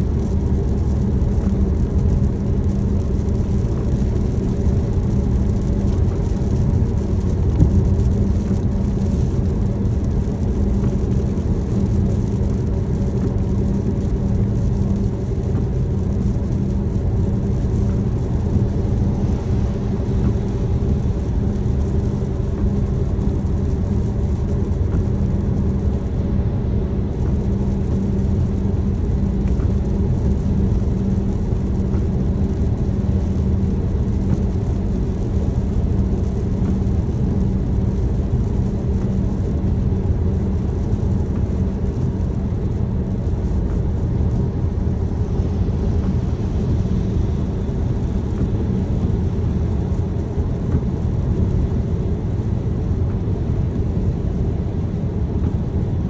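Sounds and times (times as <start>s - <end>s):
car engine rumble: 0.0s - 56.0s
constant hum: 0.0s - 56.0s
road noise: 0.0s - 56.0s.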